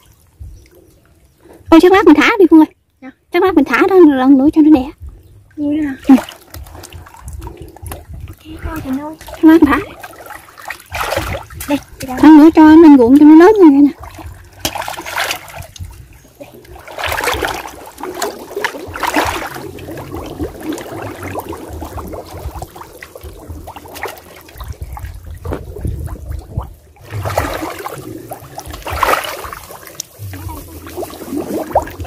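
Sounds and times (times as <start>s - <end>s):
muddy water sloshing and splashing: 0.0s - 2.7s, 3.6s - 32.0s
water trickling: 0.0s - 32.0s.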